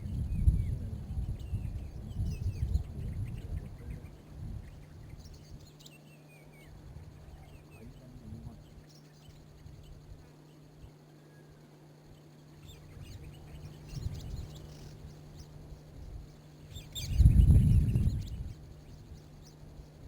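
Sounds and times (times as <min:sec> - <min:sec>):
birds chirping faintly: 0:00.0 - 0:20.0
steady low hum: 0:00.0 - 0:20.0.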